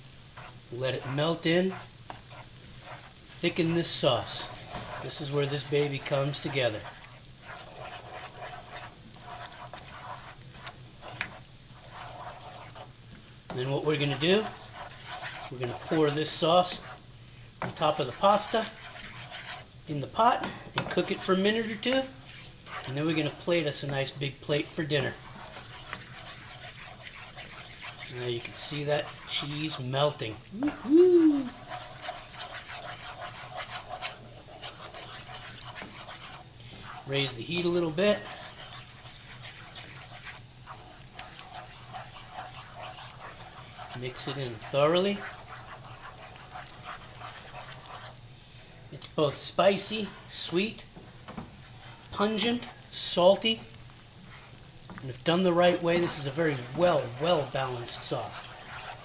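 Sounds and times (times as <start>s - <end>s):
sauce sizzling in a pan: 0.0s - 59.0s
wooden spoon scraping a pan: 0.0s - 59.0s.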